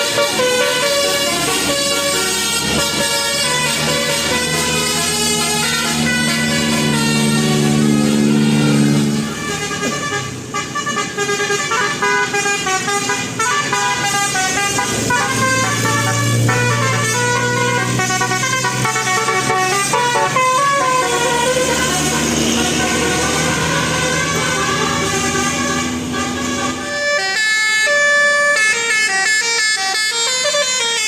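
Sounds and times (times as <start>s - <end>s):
musical bus horn melody: 0.0s - 31.0s.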